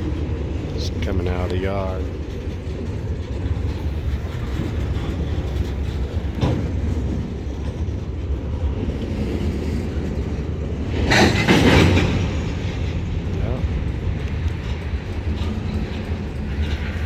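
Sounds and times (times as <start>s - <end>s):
locomotive engine rumbling: 0.0s - 17.0s
train car clank: 0.0s - 17.0s.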